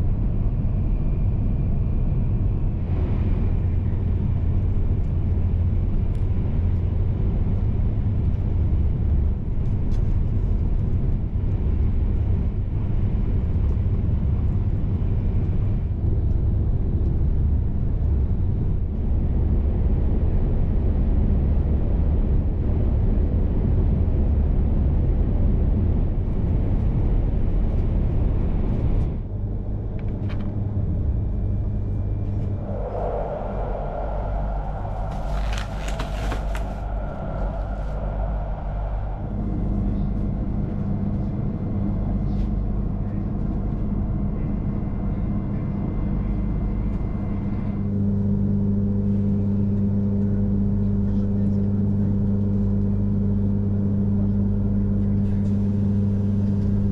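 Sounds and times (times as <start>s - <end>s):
train rumble inside cabin: 0.0s - 56.9s.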